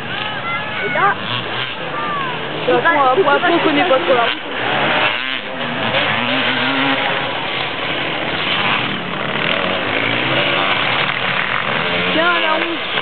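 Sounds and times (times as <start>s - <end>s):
motorcycle passing by: 0.0s - 13.0s.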